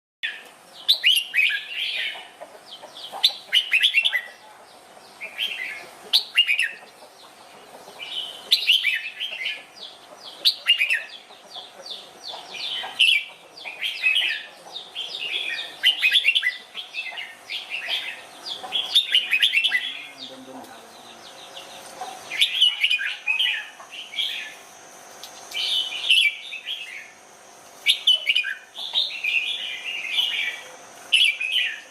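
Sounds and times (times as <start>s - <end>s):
bulbul singing: 0.2s - 24.6s, 25.2s - 31.9s.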